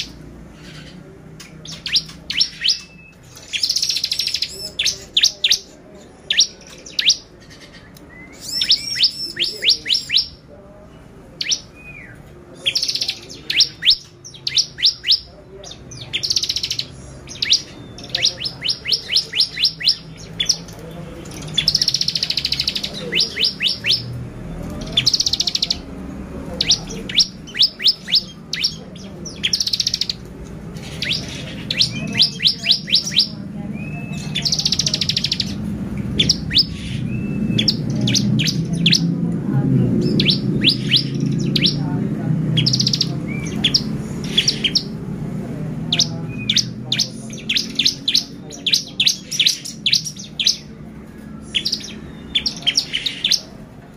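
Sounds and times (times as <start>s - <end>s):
bird singing high chirps and trills: 0.0s - 39.2s, 39.8s - 53.6s
low background noise: 0.0s - 53.9s.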